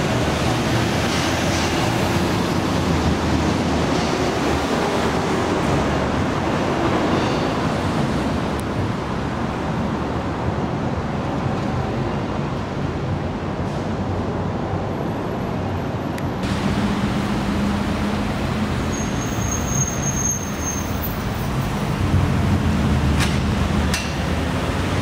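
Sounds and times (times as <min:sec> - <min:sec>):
vehicle road noise: 0:00.0 - 0:25.0.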